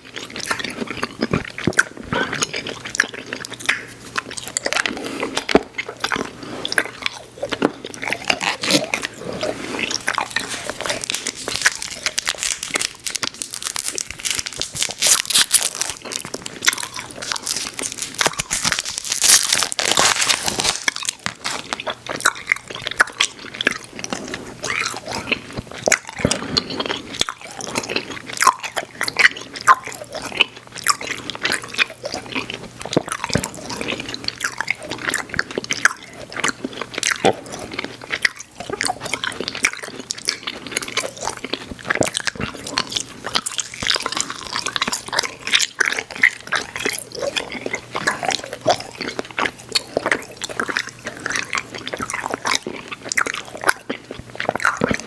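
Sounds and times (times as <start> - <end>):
candy chewing mouth sounds: 0.0 - 55.0.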